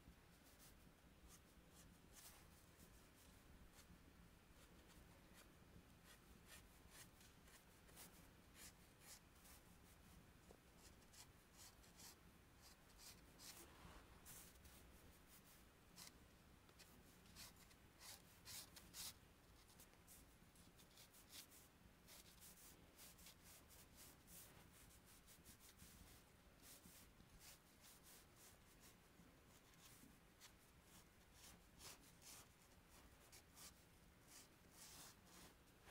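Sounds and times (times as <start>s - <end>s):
chalk scratching on paper: 4.6s - 10.0s, 10.8s - 35.6s.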